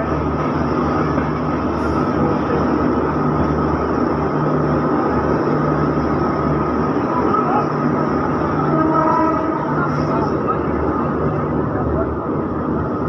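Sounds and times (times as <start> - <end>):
train rumble and rail noise: 0.0 - 13.0.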